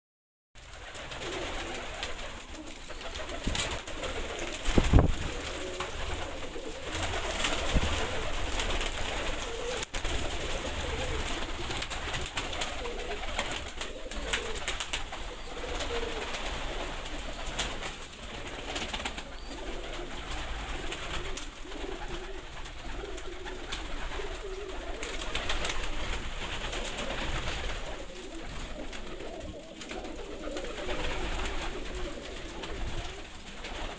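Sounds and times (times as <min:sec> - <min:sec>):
pigeons cooing: 0:00.6 - 0:33.9
rustling: 0:00.6 - 0:33.9.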